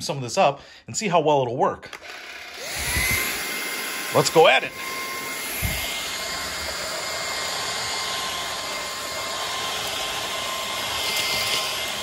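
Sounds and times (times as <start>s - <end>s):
vacuum cleaner motor whining: 1.9s - 12.0s.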